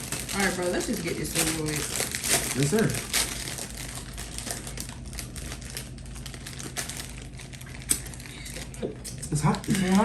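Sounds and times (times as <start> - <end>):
food packaging crinkling: 0.0 - 10.0.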